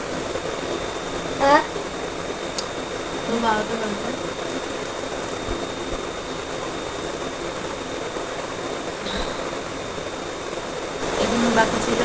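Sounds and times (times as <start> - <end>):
faint high-pitched whine: 0.0 - 12.0
steady rushing noise: 0.0 - 12.0.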